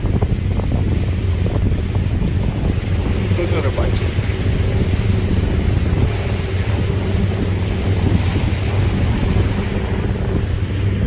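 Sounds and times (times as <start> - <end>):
motorboat engine droning: 0.0 - 11.0
wind buffeting microphone: 0.0 - 11.0.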